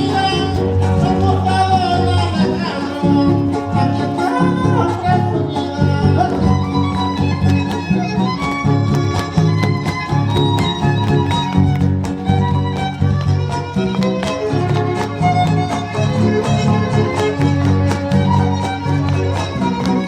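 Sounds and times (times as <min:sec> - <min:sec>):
strummed guitars: 0:00.0 - 0:20.0
violin melody: 0:00.0 - 0:20.0.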